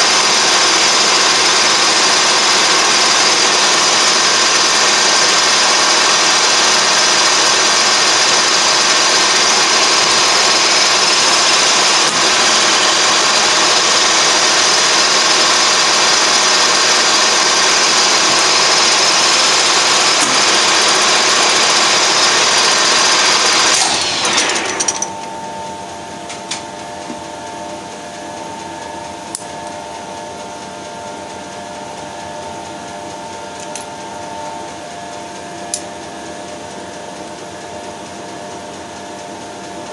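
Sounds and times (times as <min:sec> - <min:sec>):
lathe spindle running: 0:00.0 - 0:39.9
lathe winding down whine: 0:00.0 - 0:39.9.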